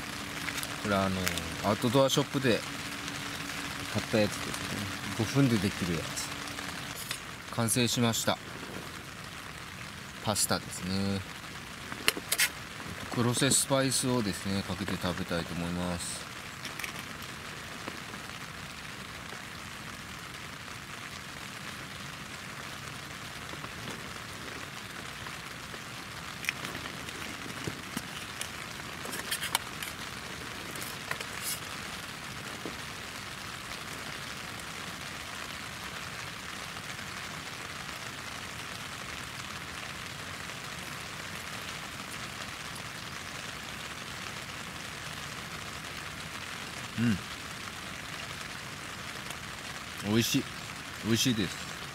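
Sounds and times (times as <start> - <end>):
rain falling on tent: 0.0 - 51.9.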